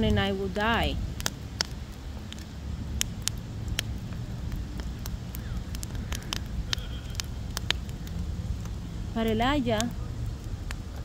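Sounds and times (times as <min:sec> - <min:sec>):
fire crackling and popping: 0:00.0 - 0:11.0
low fire rumble: 0:00.0 - 0:11.0.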